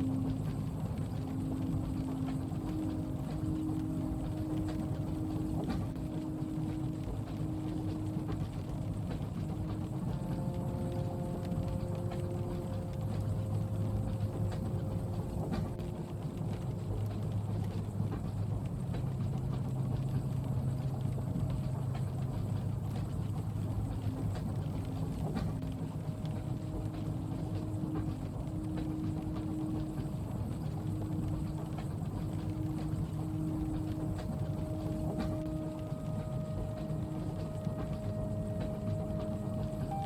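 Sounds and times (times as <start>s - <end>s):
faint held hum tones: 0.0s - 40.0s
light rain on window: 0.0s - 40.0s
scattered ticks: 0.0s - 40.0s
train rumbling inside carriage: 0.0s - 40.0s.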